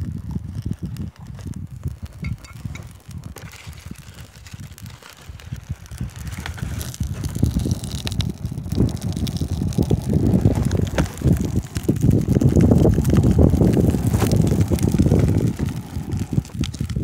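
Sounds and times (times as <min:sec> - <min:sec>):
fire crackling: 0:00.0 - 0:17.0
wind buffeting microphone: 0:00.0 - 0:17.0.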